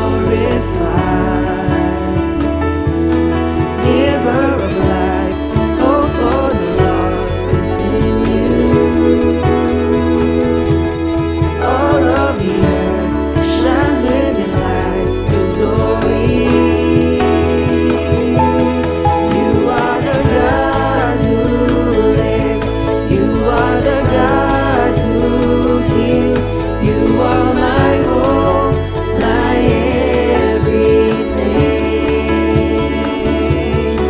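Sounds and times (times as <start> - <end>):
band playing worship song: 0.0 - 34.0
singers singing: 0.0 - 34.0.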